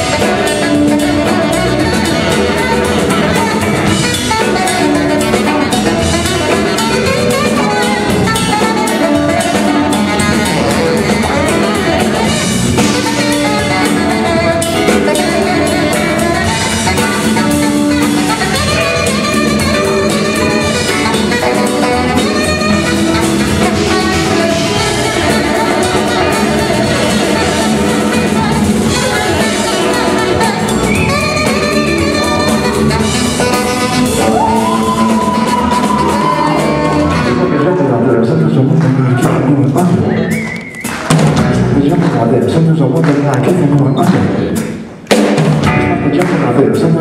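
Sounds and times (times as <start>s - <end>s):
tenor saxophone lead: 0.0s - 41.1s
jazz-rock band playing: 0.0s - 47.0s.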